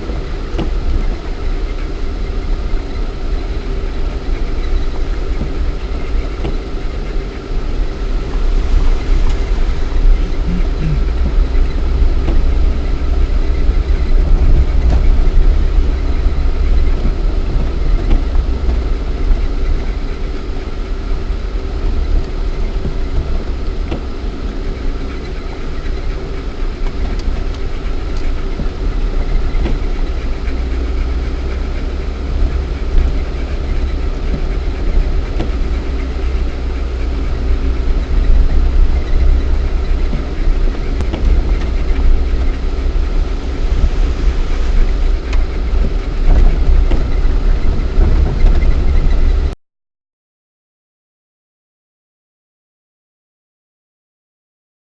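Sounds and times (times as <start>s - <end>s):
car engine running: 0.0s - 49.6s.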